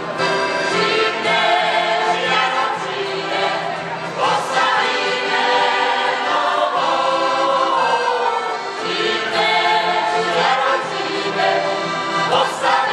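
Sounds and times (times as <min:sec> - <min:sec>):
accordion: 0:00.0 - 0:12.9
acoustic guitar: 0:00.0 - 0:12.9
mixed choir singing: 0:00.5 - 0:12.9.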